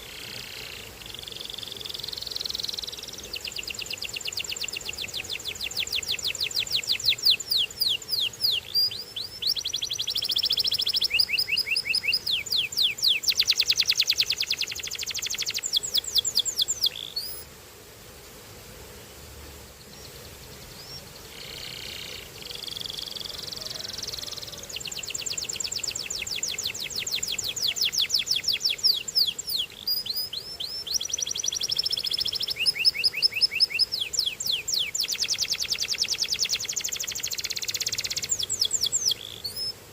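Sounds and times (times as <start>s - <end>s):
canary singing trills: 0.0s - 17.4s, 19.9s - 39.8s.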